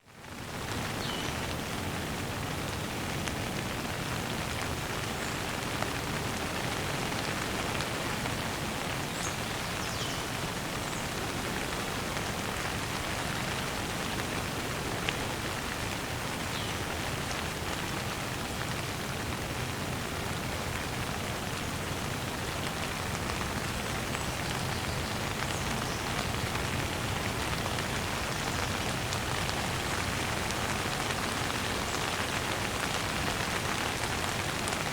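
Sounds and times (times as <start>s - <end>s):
rain shower falling: 0.1s - 34.9s.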